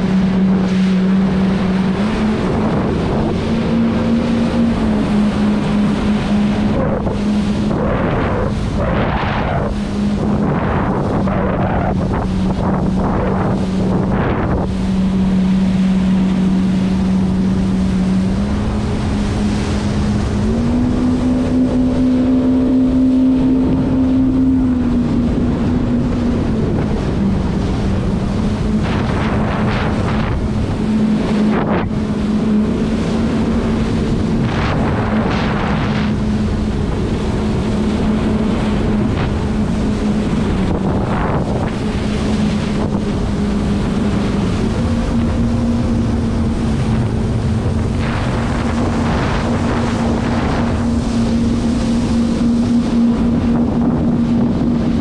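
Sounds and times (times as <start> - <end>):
jet ski engine droning: 0.0 - 55.0
spray rushing along hull: 0.0 - 55.0
wind on microphone: 0.0 - 55.0.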